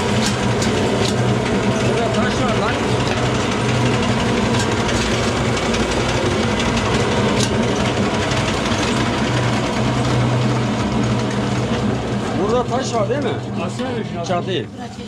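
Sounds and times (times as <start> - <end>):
stone mill humming and rattling: 0.0 - 15.0.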